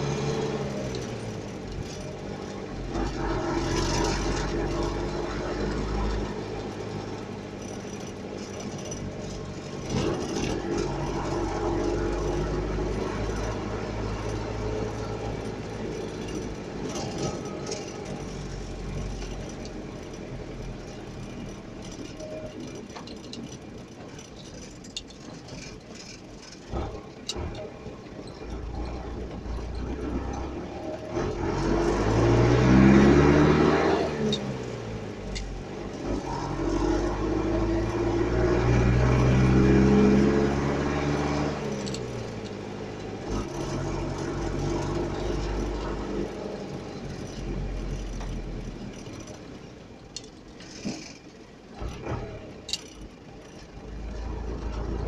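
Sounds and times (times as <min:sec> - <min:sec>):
vehicle engine revving: 0:00.0 - 0:22.3, 0:26.6 - 0:49.6.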